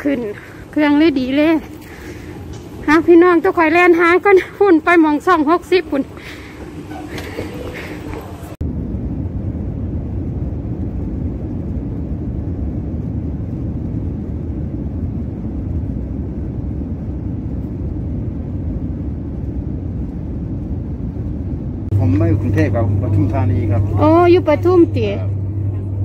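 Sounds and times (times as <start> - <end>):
airliner cabin low rumble: 0.0 - 26.0.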